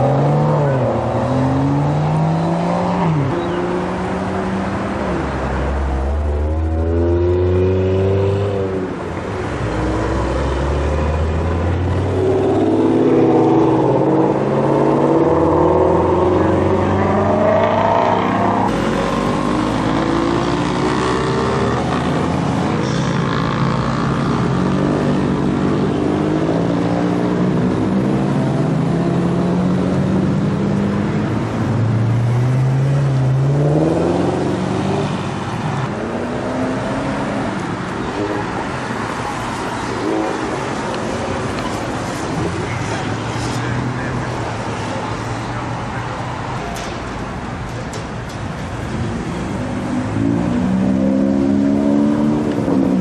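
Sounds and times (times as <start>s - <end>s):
car engines revving past: 0.0s - 47.6s, 48.4s - 53.0s.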